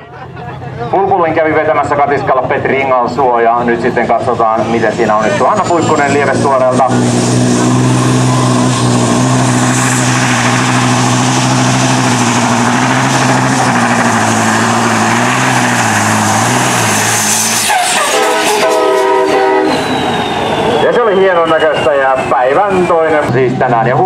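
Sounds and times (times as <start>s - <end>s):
diesel truck engine at full throttle: 0.0s - 24.0s.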